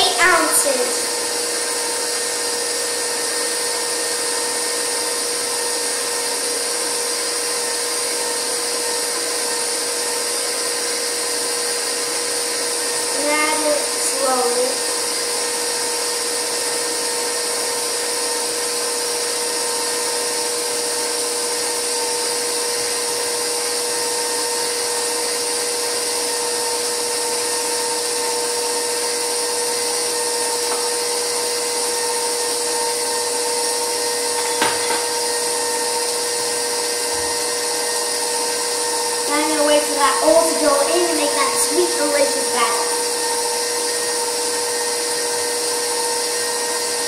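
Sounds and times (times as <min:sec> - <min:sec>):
stand mixer motor whine: 0:00.0 - 0:47.0.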